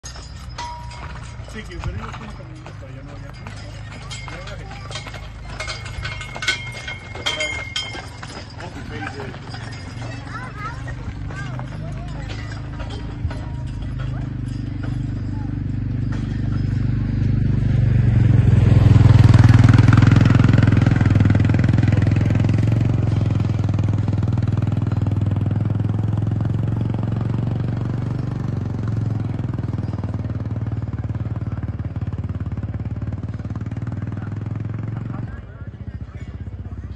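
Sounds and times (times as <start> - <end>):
utility vehicle engine driving past: 0.0 - 36.9.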